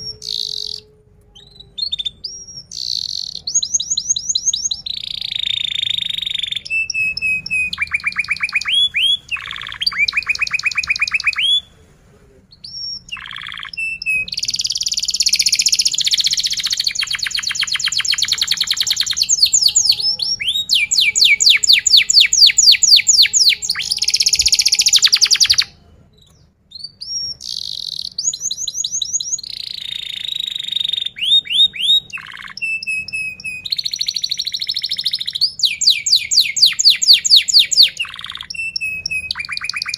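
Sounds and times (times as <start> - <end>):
canary singing trills: 0.0 - 11.7, 12.5 - 39.9.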